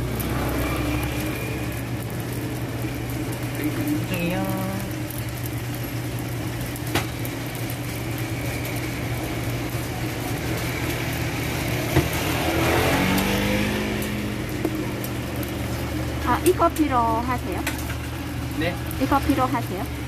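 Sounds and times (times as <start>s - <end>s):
metal tongs on a griddle: 0.0s - 19.7s
pancakes frying on a griddle: 0.0s - 20.0s.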